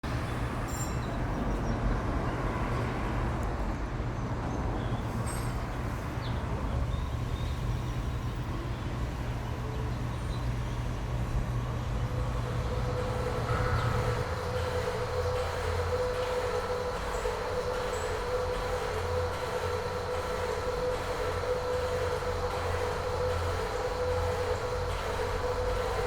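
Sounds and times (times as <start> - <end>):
low mechanical rumble: 0.0 - 26.0.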